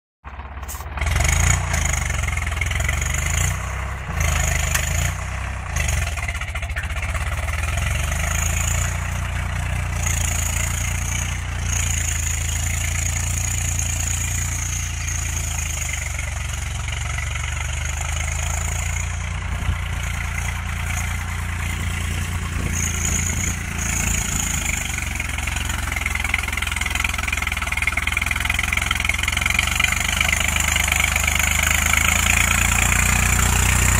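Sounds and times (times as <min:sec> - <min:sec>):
tractor diesel engine under load: 0:00.2 - 0:33.9.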